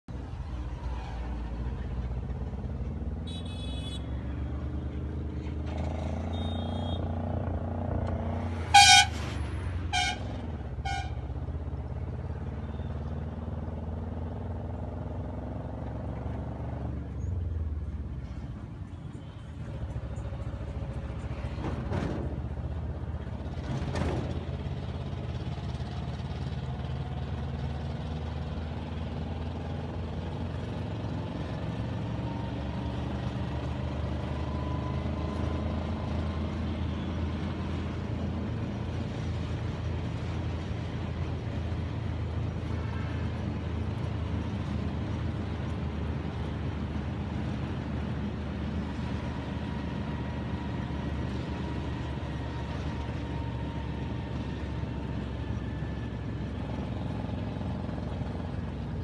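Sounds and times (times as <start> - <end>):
traffic engine rumble: 0.1 - 59.0.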